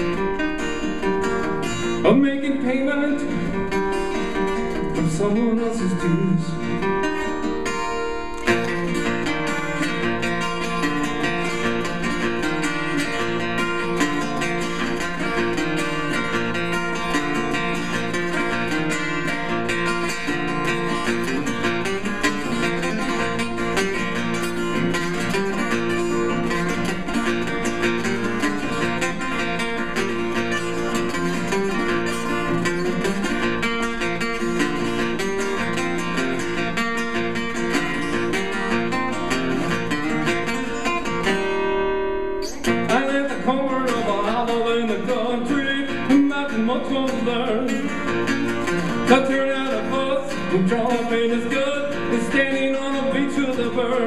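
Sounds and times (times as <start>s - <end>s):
solo acoustic guitar: 0.0s - 54.0s.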